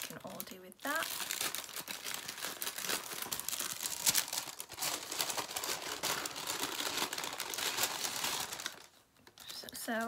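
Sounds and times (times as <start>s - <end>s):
packaging crinkling and rustling: 0.0s - 10.0s
sharp packaging crackle: 0.0s - 10.0s.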